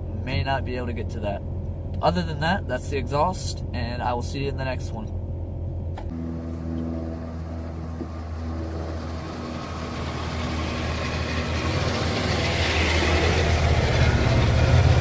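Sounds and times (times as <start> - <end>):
car engine and exhaust running: 0.0 - 15.0.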